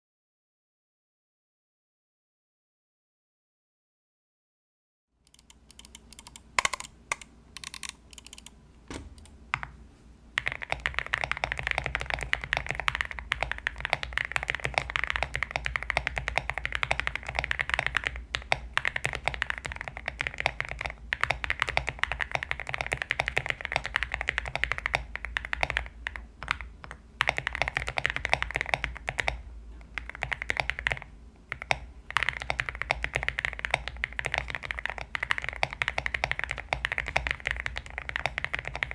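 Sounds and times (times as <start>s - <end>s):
mechanical keyboard typing: 5.3s - 9.7s, 10.4s - 38.9s.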